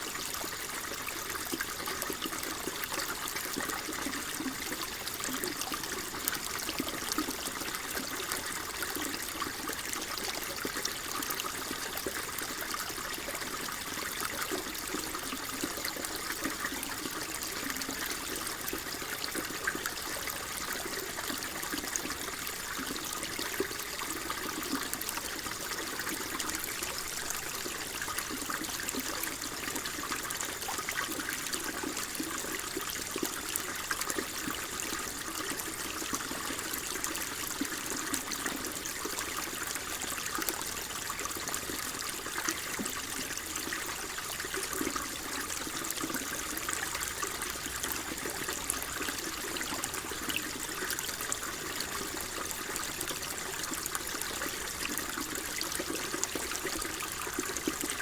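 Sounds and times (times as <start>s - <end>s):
shallow water trickling: 0.0s - 58.0s.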